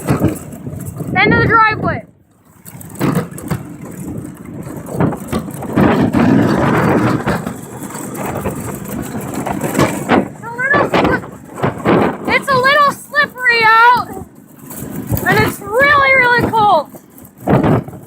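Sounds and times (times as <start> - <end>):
riding lawn mower engines: 0.0 - 18.0.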